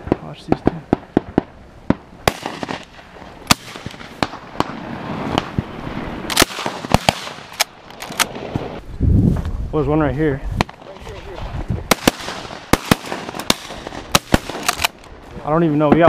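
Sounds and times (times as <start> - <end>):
shotguns firing: 0.0 - 8.8, 10.6 - 15.2.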